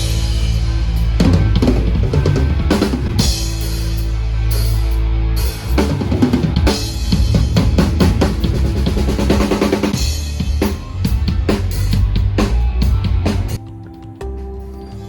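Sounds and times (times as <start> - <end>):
sustained bass notes: 0.0 - 15.0.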